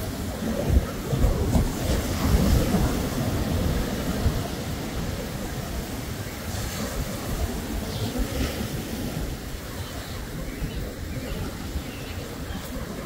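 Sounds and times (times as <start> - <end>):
ocean waves washing onto beach: 0.0 - 13.0
wind rumbling on microphone: 0.0 - 13.0.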